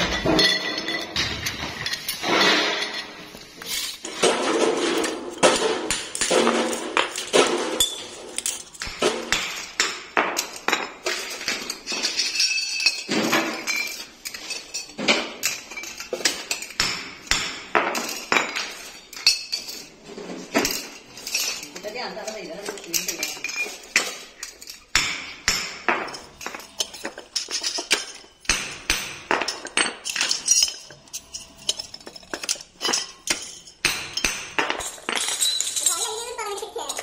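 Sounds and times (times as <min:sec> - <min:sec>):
metal parts clinking: 0:00.0 - 0:37.0.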